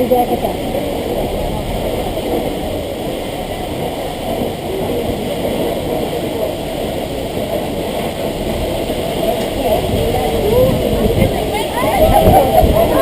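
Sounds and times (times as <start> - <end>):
boat engine running: 0.0 - 13.0
waterfall roar: 0.0 - 13.0.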